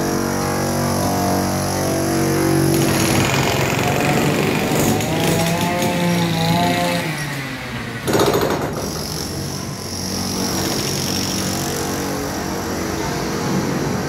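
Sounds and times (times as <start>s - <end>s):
jackhammer hammering: 0.0s - 12.5s
machine drone: 0.0s - 14.0s.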